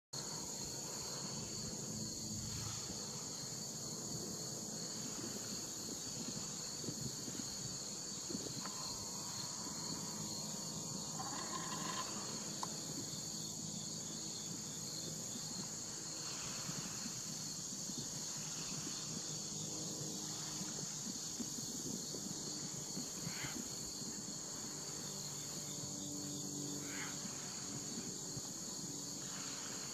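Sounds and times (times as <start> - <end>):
insects high-pitched whine: 0.2 - 29.9
insects pulsing trill: 0.2 - 29.9.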